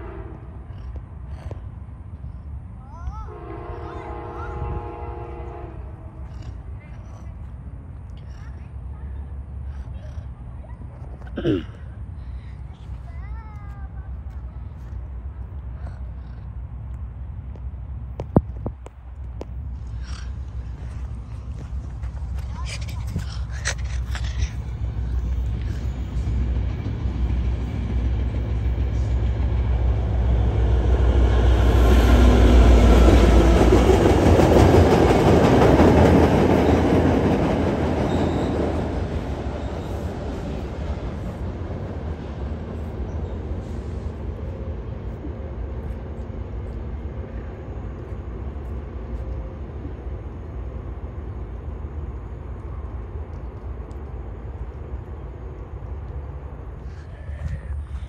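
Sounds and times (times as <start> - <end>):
train running over rail bridge: 0.0 - 58.0.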